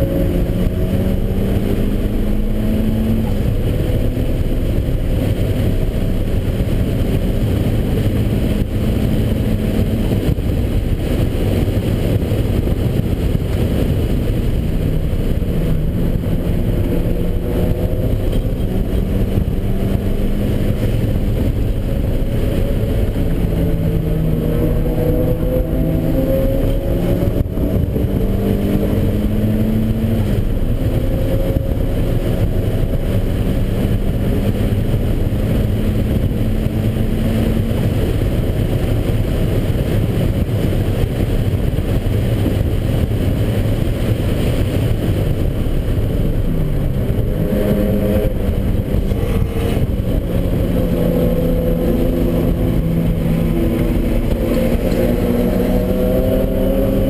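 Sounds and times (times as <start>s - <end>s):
road and wind noise: 0.0s - 57.0s
turbocharged car engine accelerating: 0.0s - 57.0s.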